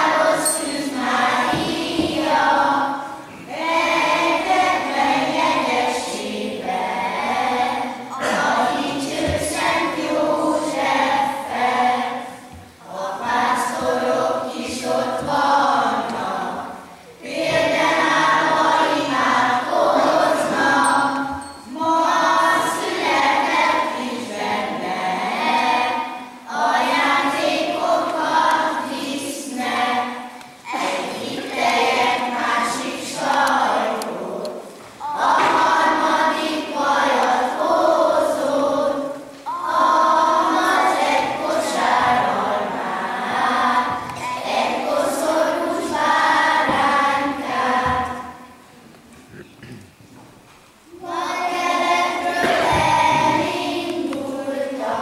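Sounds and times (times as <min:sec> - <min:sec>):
children's choir singing: 0:00.0 - 0:49.4, 0:50.8 - 0:55.0.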